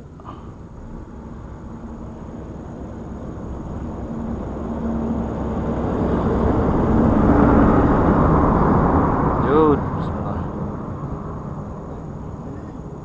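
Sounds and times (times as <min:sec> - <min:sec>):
vehicle engine approaching: 0:00.0 - 0:13.0.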